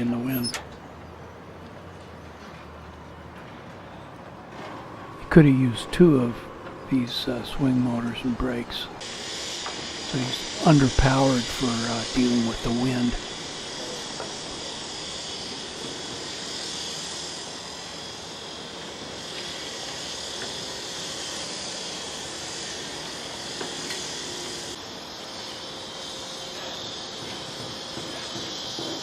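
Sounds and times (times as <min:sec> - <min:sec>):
crane machinery whirring: 0:00.0 - 0:29.0.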